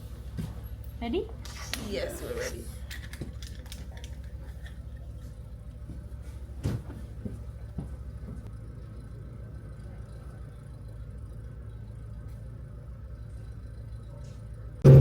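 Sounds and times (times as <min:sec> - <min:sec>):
helicopter engine hum from inside: 0:02.4 - 0:15.0.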